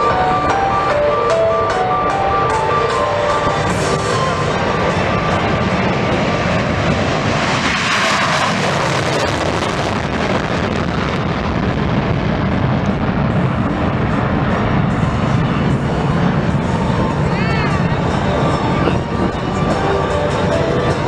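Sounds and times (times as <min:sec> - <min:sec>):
plane engine flying over: 0:00.0 - 0:21.0.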